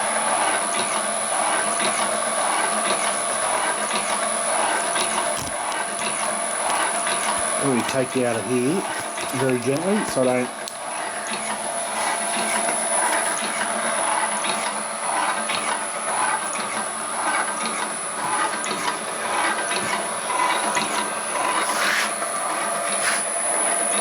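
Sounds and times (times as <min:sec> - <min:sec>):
machine whine: 0:00.0 - 0:24.0
gears clattering: 0:00.4 - 0:23.3.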